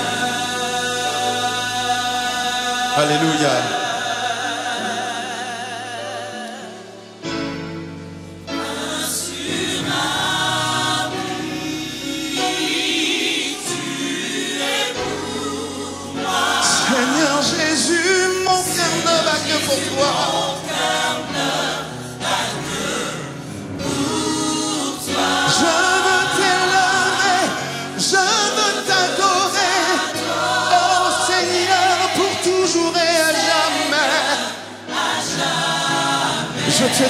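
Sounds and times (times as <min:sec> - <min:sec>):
choir singing in harmony: 0:00.0 - 0:37.0.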